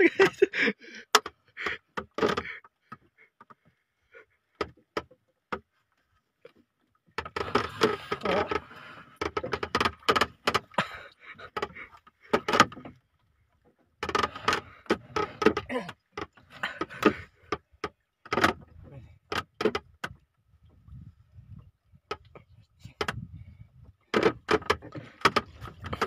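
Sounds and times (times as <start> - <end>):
knocks and clatter on boat: 0.0 - 3.8, 4.5 - 26.0.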